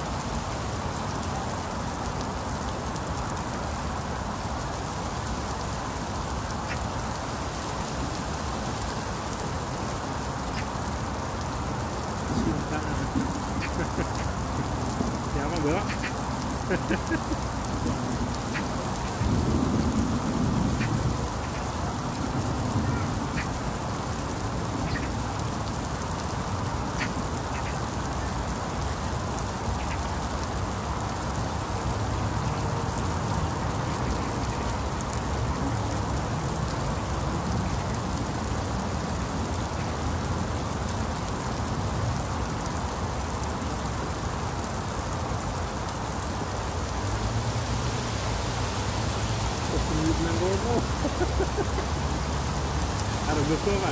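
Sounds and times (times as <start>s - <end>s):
heavy rain on roofs and road: 0.0s - 53.9s.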